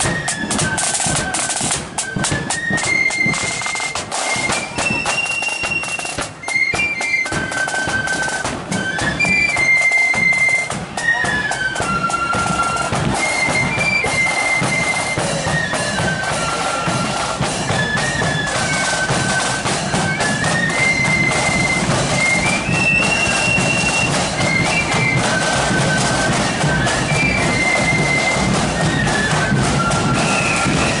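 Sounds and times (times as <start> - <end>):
flutes playing marching tune: 0.0 - 31.0
side drums: 0.0 - 31.0.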